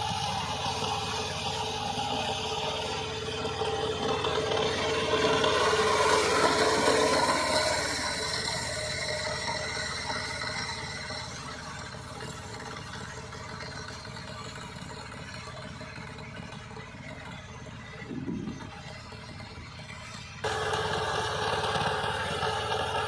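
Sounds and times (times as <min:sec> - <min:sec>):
power tiller engine running: 0:00.0 - 0:23.0.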